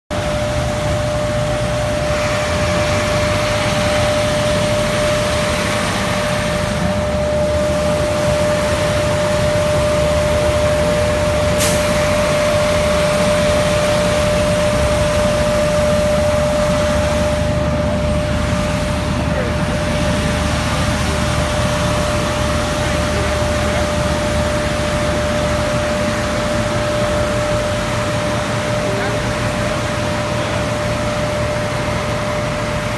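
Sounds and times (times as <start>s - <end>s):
steady whine: 0.1s - 32.9s
truck engine drone: 0.1s - 32.9s.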